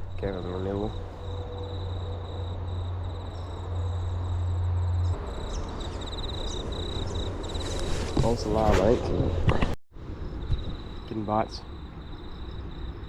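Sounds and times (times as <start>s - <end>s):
crickets chirping: 0.0s - 9.0s, 10.0s - 13.0s.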